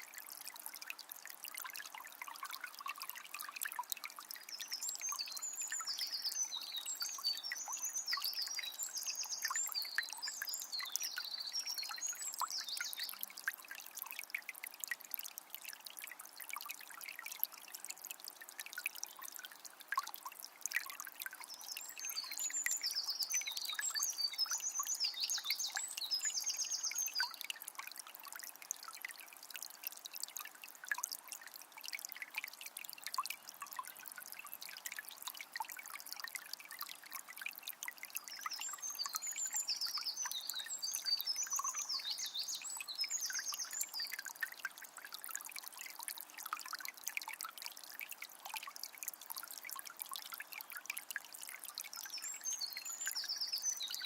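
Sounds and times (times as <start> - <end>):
spring water trickling: 0.0 - 54.0.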